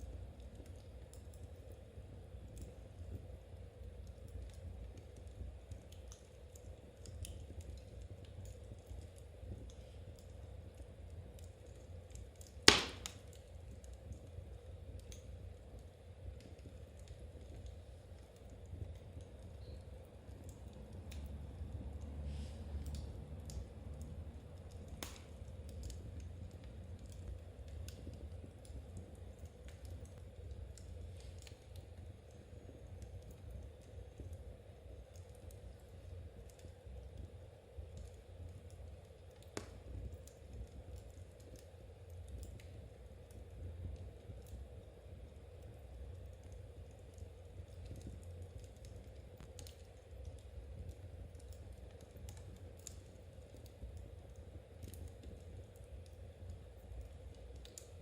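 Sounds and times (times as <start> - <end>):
fire crackling: 0.0 - 58.0
low steady rumble: 0.0 - 58.0.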